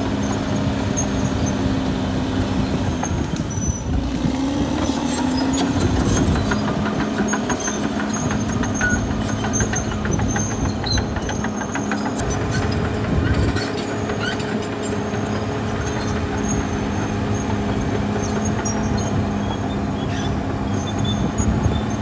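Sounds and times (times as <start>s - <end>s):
bulldozer engine under load: 0.0s - 22.0s
steel tracks clicking and clanking: 3.0s - 22.0s.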